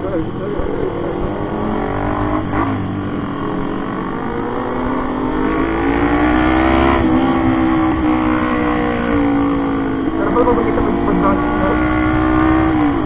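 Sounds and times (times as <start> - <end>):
low wind rumble: 0.0 - 13.0
motorcycle engine accelerating: 0.0 - 13.0.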